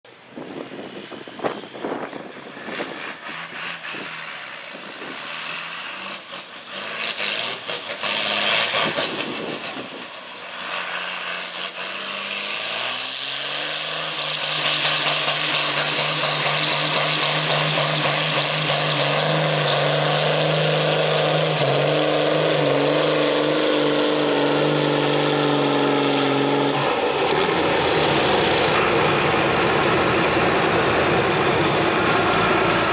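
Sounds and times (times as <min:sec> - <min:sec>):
tractor diesel engine under load: 0:00.0 - 0:32.9
different steady engine: 0:00.1 - 0:32.9.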